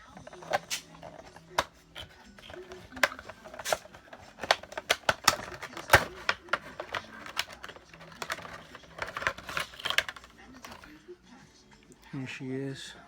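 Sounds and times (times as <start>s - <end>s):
cardboard and plastic packaging crinkling: 0.0s - 10.9s.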